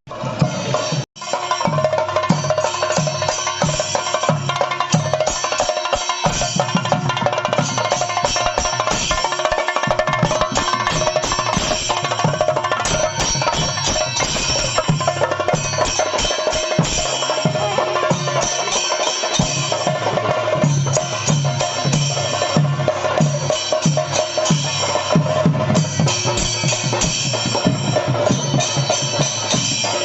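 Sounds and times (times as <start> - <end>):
clattering percussion: 0.1 - 30.0.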